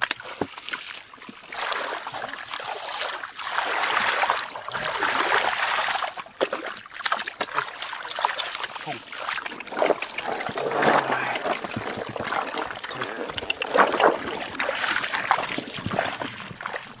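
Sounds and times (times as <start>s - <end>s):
water splashing in a tub: 0.0s - 17.0s
water streaming and dripping: 0.0s - 17.0s.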